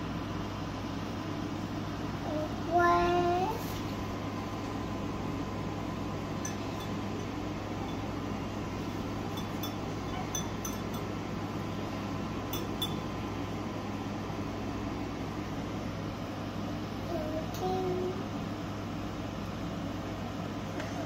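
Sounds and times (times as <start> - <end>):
steady room hum: 0.0 - 21.0.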